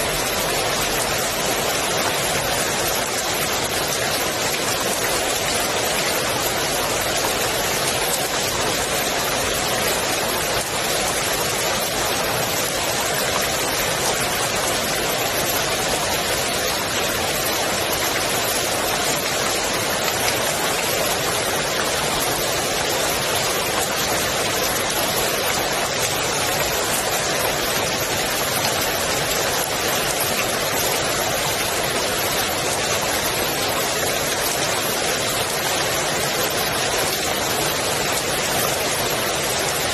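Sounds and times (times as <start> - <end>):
rain falling on pool water: 0.0 - 39.9.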